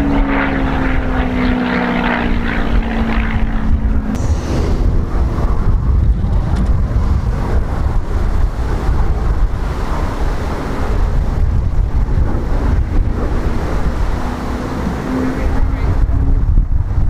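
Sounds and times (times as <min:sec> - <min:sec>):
distant propeller plane engines: 0:00.0 - 0:17.0
wind buffeting microphone: 0:00.0 - 0:17.0.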